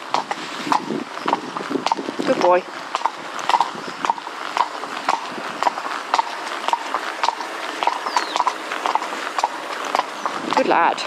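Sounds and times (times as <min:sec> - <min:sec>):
pony hooves clip-clopping: 0:00.0 - 0:11.0.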